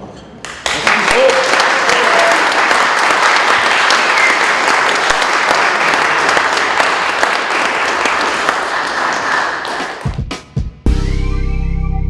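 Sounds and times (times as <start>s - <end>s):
audience applauding: 0.4s - 10.2s.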